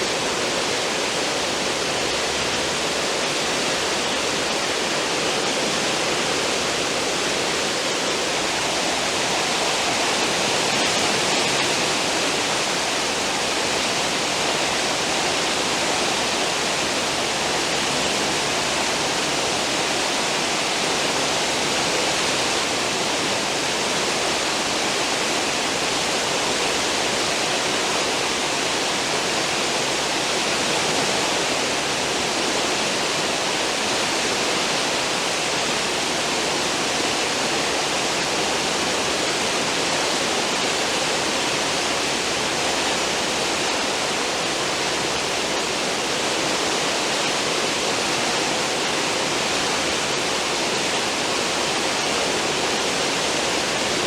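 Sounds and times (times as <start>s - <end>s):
ship wake churning water: 0.0s - 54.0s.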